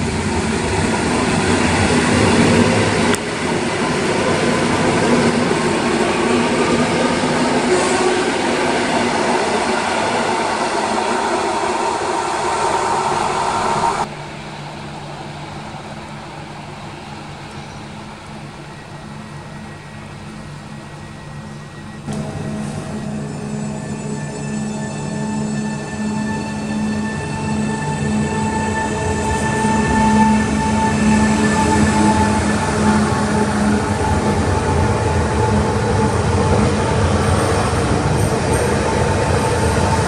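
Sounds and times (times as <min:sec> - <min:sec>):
train electric hum: 0:00.0 - 0:40.0
train wheels rushing on rails: 0:00.0 - 0:40.0.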